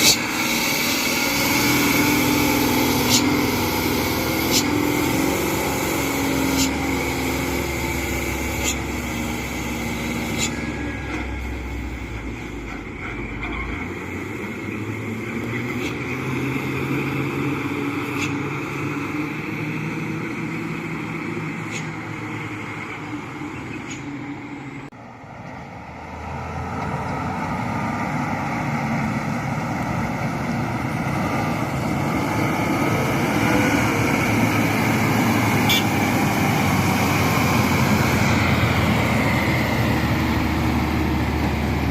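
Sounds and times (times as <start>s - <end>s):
dump trucks passing: 0.0s - 41.9s.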